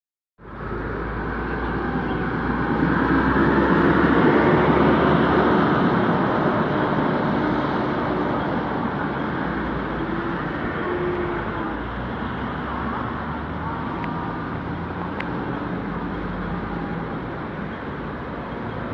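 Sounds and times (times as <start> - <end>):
road traffic: 0.4 - 18.9.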